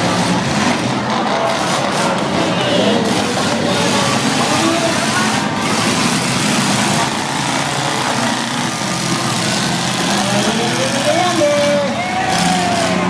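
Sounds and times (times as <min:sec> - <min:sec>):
many car engines running: 0:00.0 - 0:13.0.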